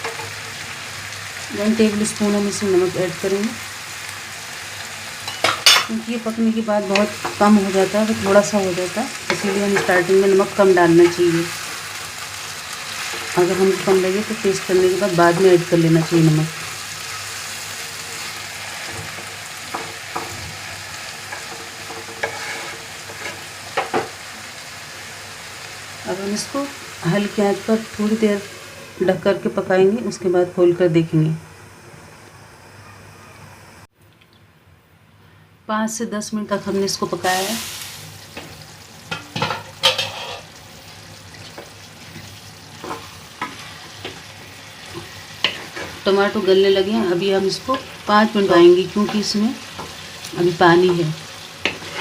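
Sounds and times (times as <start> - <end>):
vegetables sizzling in a pan: 0.0 - 33.9, 36.1 - 52.0.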